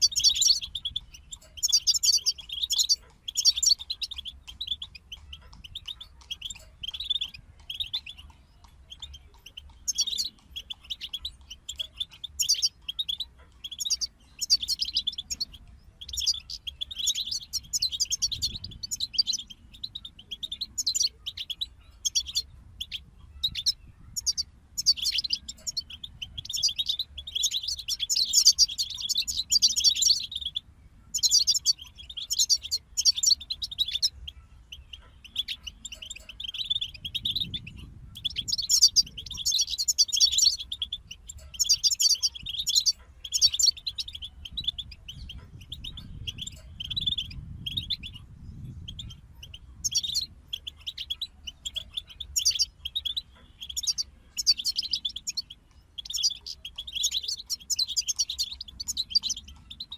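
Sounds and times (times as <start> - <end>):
goldfinches twittering: 0.0 - 59.9.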